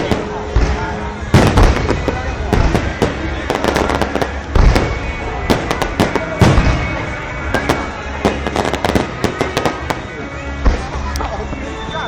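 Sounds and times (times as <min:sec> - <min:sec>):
deep firework boom: 0:00.0 - 0:10.0
fireworks bangs and crackles: 0:00.0 - 0:11.6.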